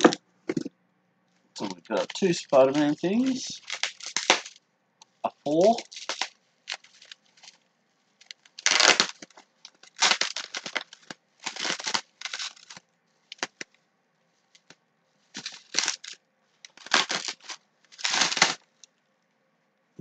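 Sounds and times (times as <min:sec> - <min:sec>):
bubble wrap crinkling: 0:01.6 - 0:04.6, 0:05.2 - 0:13.8, 0:14.4 - 0:19.0.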